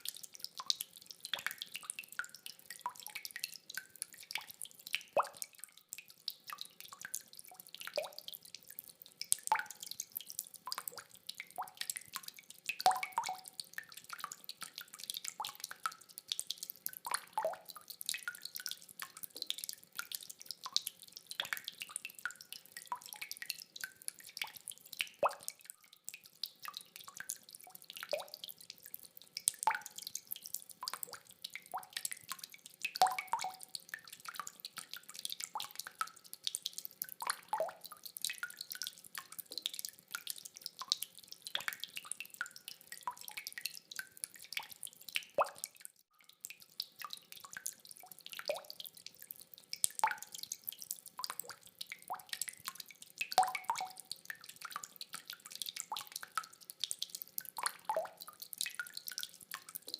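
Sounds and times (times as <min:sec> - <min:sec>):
rainwater dripping: 0:00.0 - 0:59.9.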